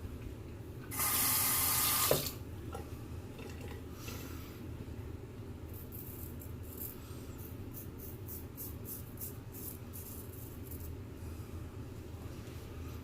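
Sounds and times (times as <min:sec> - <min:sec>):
steady low hum: 0:00.0 - 0:01.0, 0:02.3 - 0:13.0.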